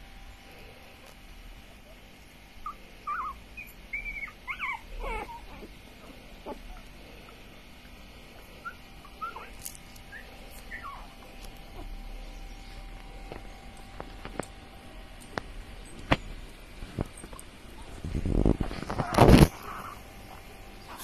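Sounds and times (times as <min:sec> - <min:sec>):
puppies squeaking and whimpering: 0:02.6 - 0:14.6, 0:15.2 - 0:21.0.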